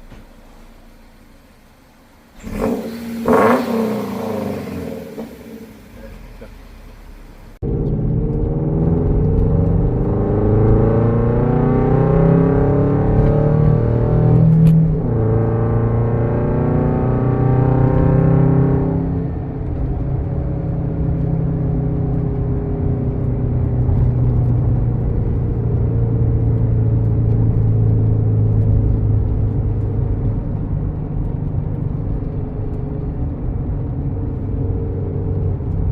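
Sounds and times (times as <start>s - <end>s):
car engine rumbling: 0.0s - 35.9s.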